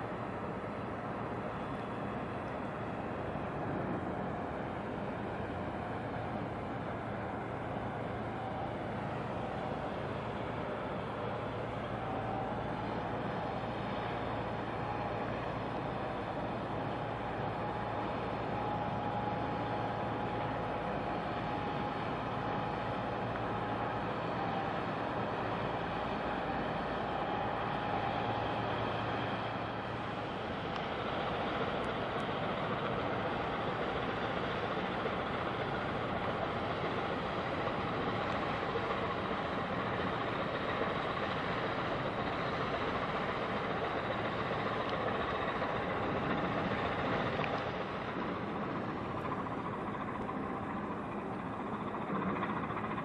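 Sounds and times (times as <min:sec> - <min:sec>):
ship engine drone: 0:00.0 - 0:53.0
steady hum: 0:00.0 - 0:53.0.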